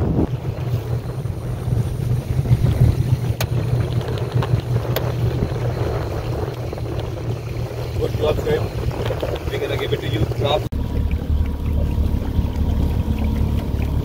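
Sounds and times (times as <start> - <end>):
motorboat engine rumble: 0.0 - 14.0
wind on microphone: 0.0 - 14.0.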